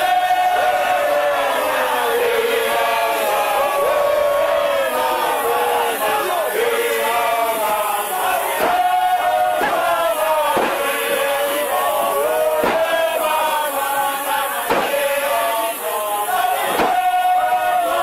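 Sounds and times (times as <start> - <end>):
men chanting in unison: 0.0 - 18.0.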